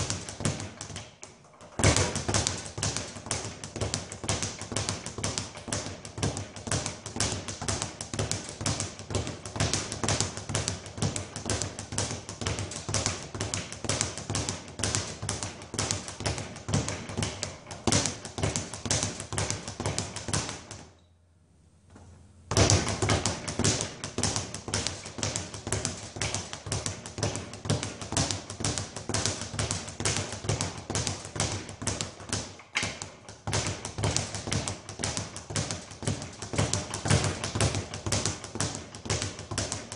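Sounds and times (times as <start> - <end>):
speed bag being punched: 0.0 - 20.9, 22.5 - 39.9.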